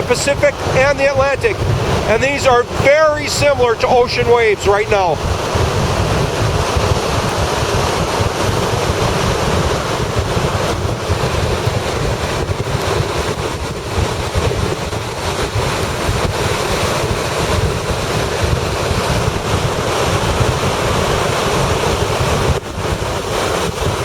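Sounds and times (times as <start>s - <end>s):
waves crashing on beach: 0.0s - 24.0s
wind buffeting microphone: 0.0s - 24.0s.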